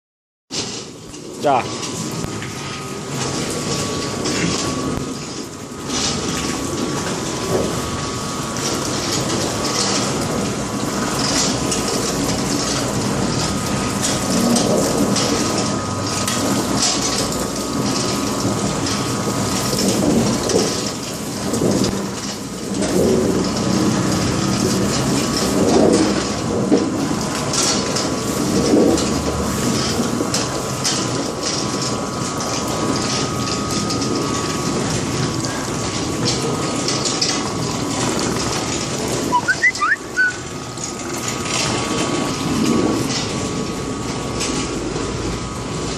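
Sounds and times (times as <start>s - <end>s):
steady machine whine: 0.8s - 45.9s.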